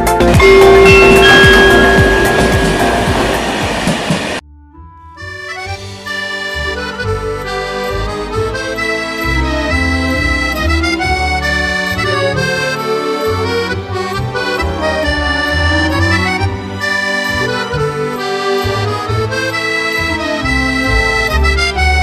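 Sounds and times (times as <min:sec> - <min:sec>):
accordion music with bass line: 0:00.0 - 0:22.0.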